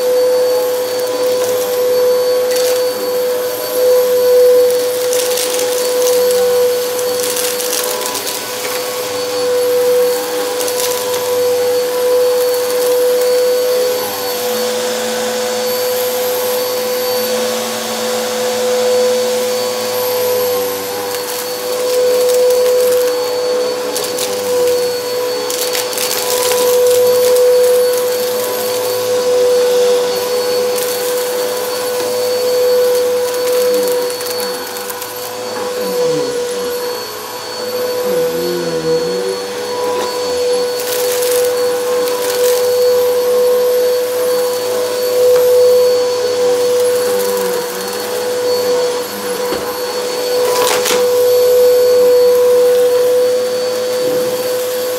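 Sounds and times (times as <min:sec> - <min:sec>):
vacuum cleaner motor whine: 0:00.0 - 0:54.9.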